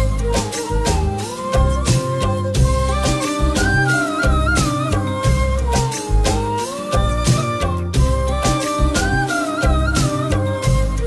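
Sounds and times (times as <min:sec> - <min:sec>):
slow song with bass and drums: 0:00.0 - 0:11.0.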